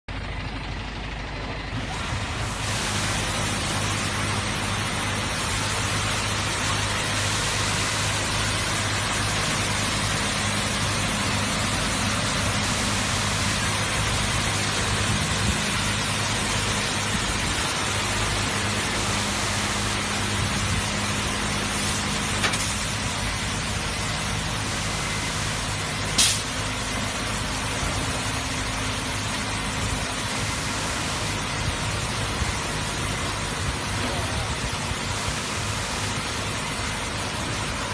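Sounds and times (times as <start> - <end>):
low motor hum: 0.1 - 37.9
high-pressure water spray hissing: 1.7 - 37.9.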